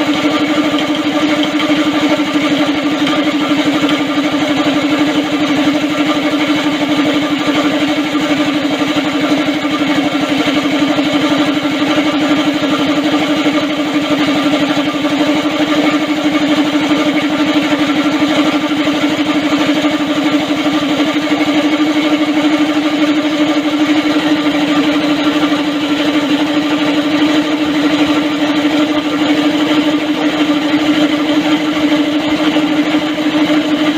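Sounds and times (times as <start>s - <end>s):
small petrol engine running: 0.0s - 33.9s.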